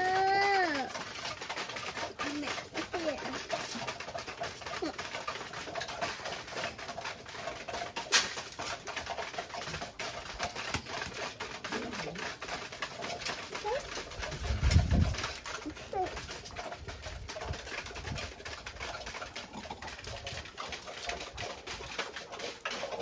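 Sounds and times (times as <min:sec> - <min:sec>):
small clicks and scratches: 0:00.0 - 0:23.0.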